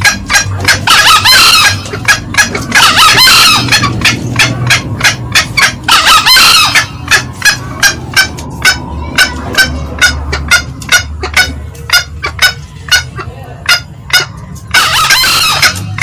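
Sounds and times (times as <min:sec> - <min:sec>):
fast sharp cackling: 0:00.0 - 0:16.0.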